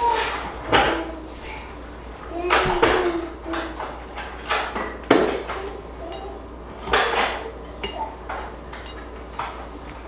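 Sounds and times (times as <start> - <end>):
utensils clattering in a bowl: 0.0 - 10.0.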